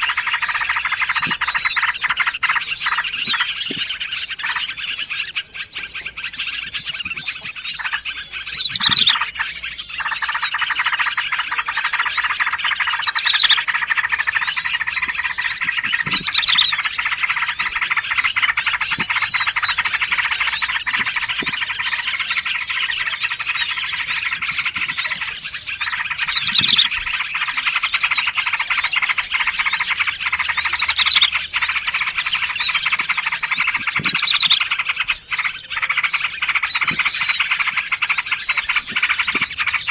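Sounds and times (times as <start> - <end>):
fast high bird trill: 0.0 - 39.9
songbirds chirping chorus: 0.0 - 39.9.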